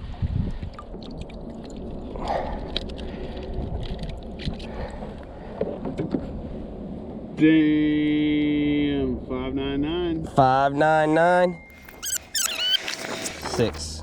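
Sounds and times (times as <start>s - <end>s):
wind rumble on microphone: 0.0s - 11.4s.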